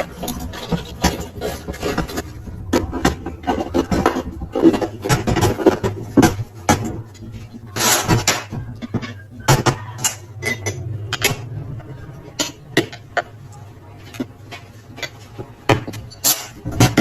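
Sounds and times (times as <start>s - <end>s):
metal scraping: 0.0s - 17.0s.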